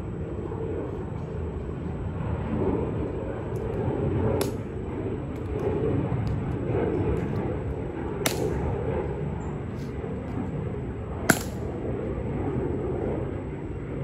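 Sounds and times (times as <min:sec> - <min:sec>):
outdoor background hum: 0:00.0 - 0:14.0.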